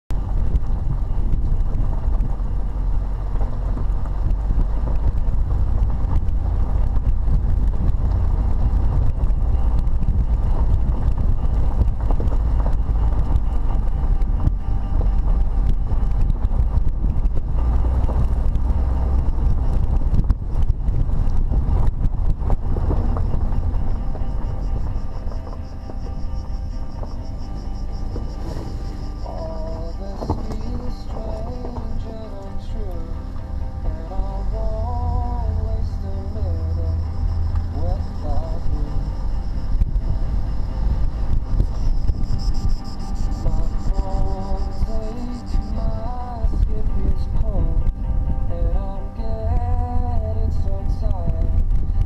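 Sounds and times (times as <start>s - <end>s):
engine and road rumble: 0.0s - 52.0s
wind buffeting microphone: 0.1s - 52.0s.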